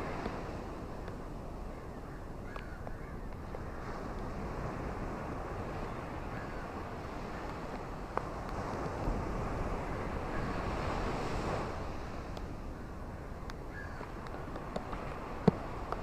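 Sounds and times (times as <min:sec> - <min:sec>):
ocean waves washing onto shore: 0:00.0 - 0:16.0.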